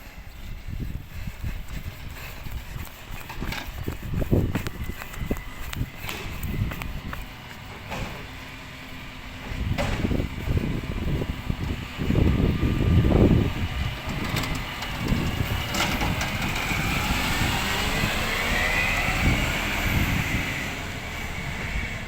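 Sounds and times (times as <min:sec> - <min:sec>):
rubbish truck running: 0:00.0 - 0:22.0.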